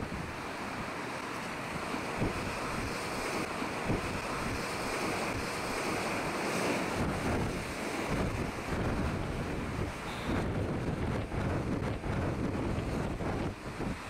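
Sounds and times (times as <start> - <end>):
wind buffeting microphone: 0.0 - 0.4, 1.7 - 14.0
rough sea and breaking surf: 0.0 - 14.0.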